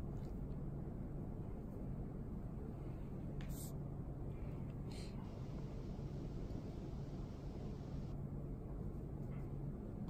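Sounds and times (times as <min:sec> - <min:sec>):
faint rumble: 0:00.0 - 0:10.0
steady low hum: 0:00.0 - 0:10.0.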